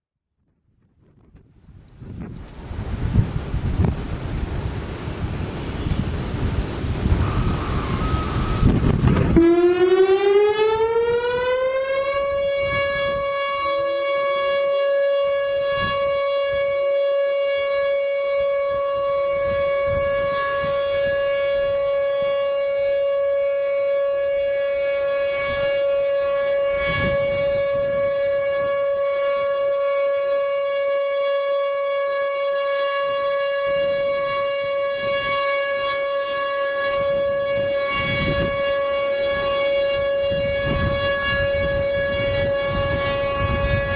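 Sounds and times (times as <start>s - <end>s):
wind noise on microphone: 0.3s - 43.9s
tornado siren steady tone: 0.7s - 43.9s.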